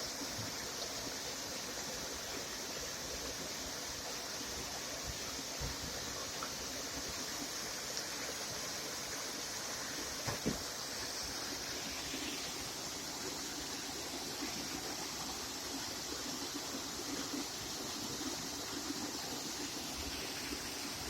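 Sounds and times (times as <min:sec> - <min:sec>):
flowing water: 0:00.0 - 0:21.0.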